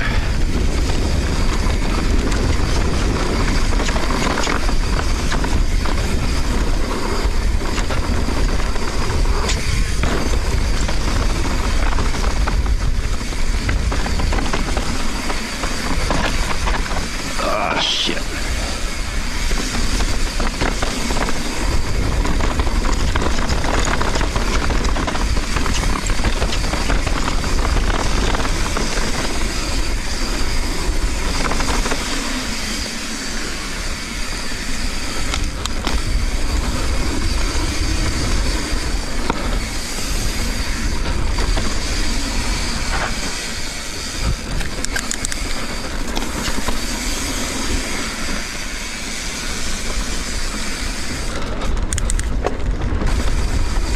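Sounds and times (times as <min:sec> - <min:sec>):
bike rattling and knocking: 0:00.0 - 0:17.4, 0:18.4 - 0:53.9
bike tyre noise: 0:00.0 - 0:53.9
wind buffeting microphone: 0:00.0 - 0:53.9.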